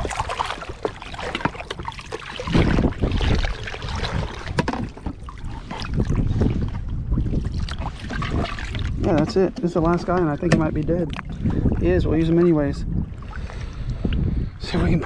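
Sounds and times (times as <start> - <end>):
water sloshing and splashing: 0.0 - 15.0
wind on microphone: 0.0 - 15.0.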